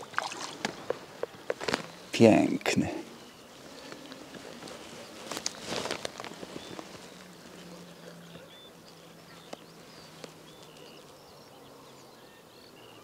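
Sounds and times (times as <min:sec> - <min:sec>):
riverside ambience: 0:00.0 - 0:13.0
faint bird chirps: 0:01.9 - 0:13.0.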